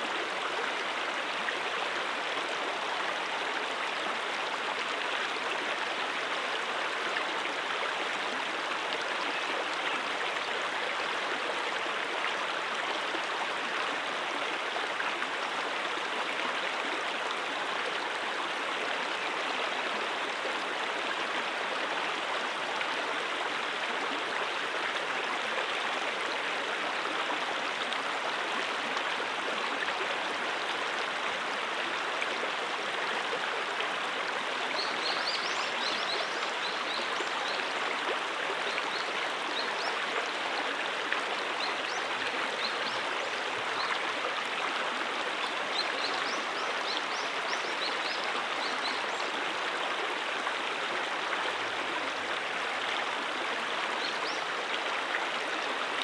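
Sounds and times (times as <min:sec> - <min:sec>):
brook water over rocks: 0:00.0 - 0:56.0.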